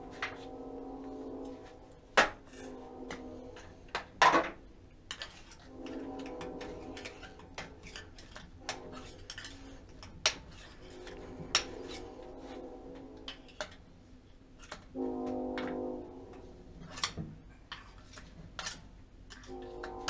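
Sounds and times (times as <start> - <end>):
hand tools clicking and scraping: 1.3 - 20.0.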